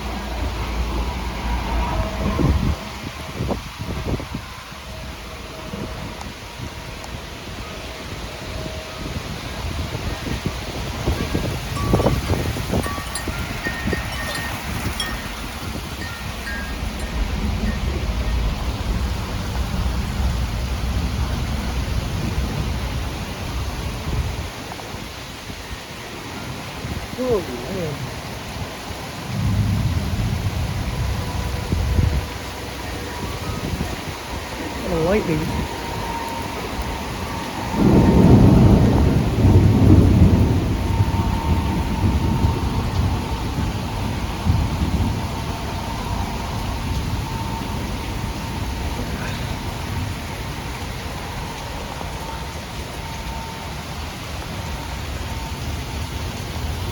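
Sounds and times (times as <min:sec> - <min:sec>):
steady rain: 0:00.0 - 0:56.9
thunder rumbling: 0:00.0 - 0:56.9.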